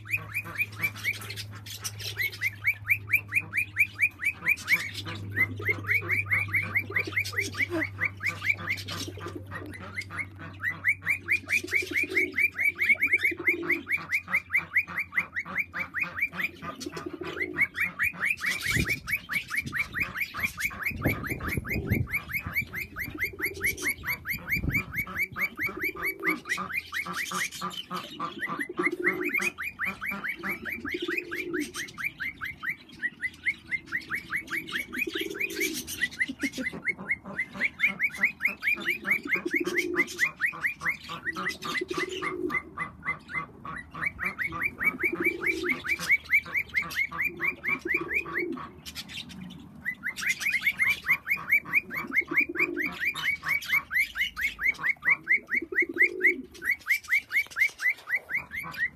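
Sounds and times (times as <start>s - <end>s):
cockatiels chirping: 0.0s - 58.9s
pigeon cooing: 0.0s - 58.9s.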